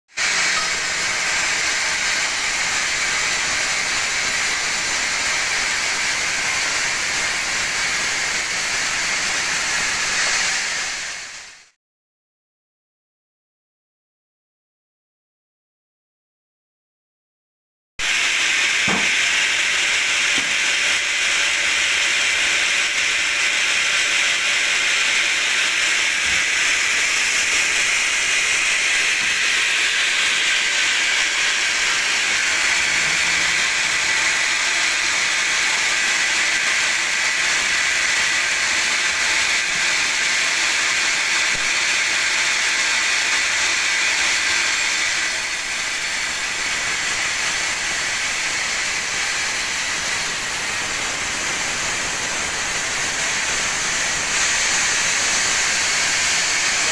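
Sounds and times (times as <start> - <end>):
band saw whirring: 0.2 - 11.7, 18.0 - 56.9.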